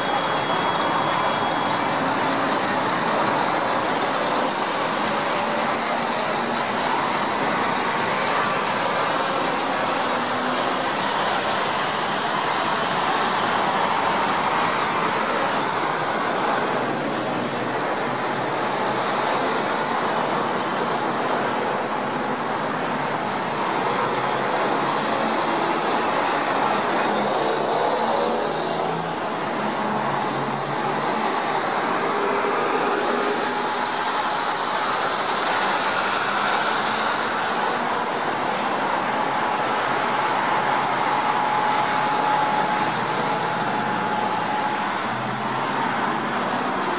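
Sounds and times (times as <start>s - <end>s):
highway traffic passing: 0.0s - 46.9s.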